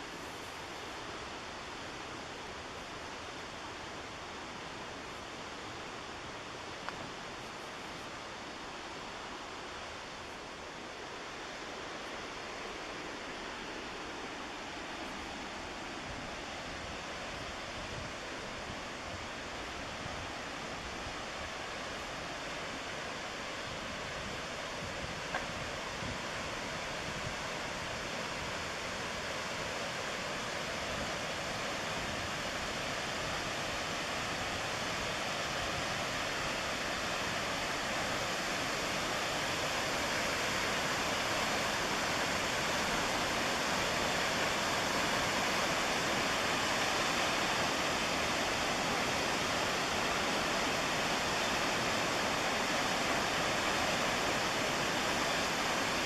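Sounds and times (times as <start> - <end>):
white water roaring: 0.0 - 56.0.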